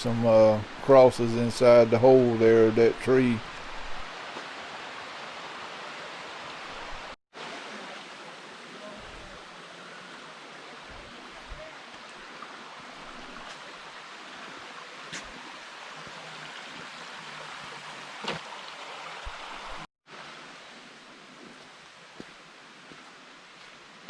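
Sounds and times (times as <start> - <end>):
waterfall rushing: 0.0 - 22.1.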